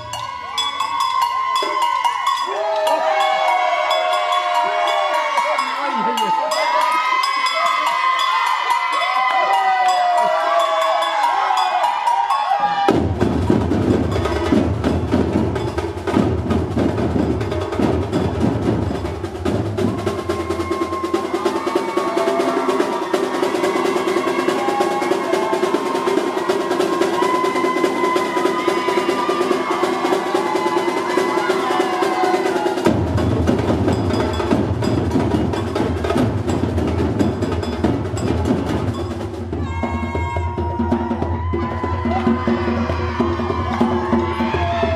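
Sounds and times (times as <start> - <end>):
percussion ensemble drumming: 0.0 - 44.9.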